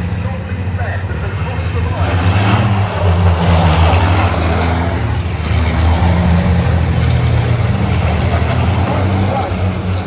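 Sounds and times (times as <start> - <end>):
racing truck engines droning: 0.0 - 10.0.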